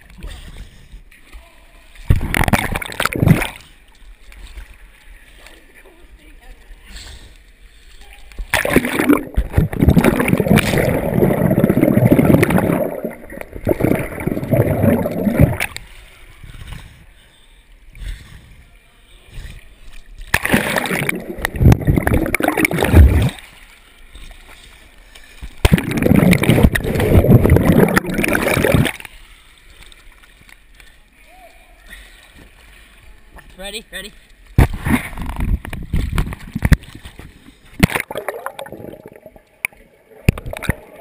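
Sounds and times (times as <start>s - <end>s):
pool water splashing and churning: 0.0s - 41.0s.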